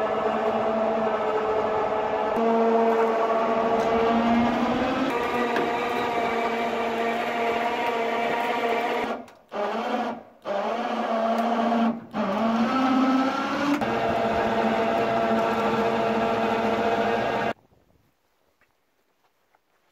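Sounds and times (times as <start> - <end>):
small motor whining: 0.0 - 17.6.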